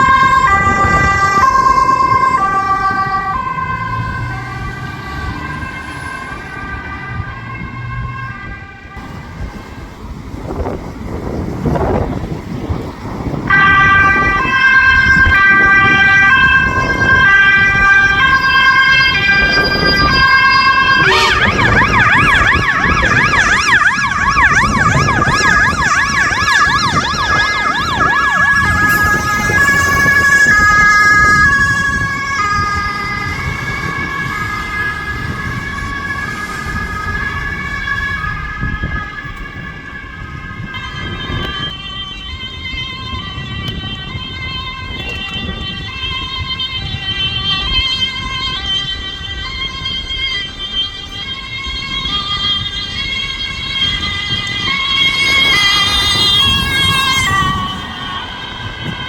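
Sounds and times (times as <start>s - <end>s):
fast warbling siren: 0.0s - 9.8s, 11.4s - 59.0s
road traffic: 0.0s - 59.0s
two-tone siren: 0.0s - 59.0s.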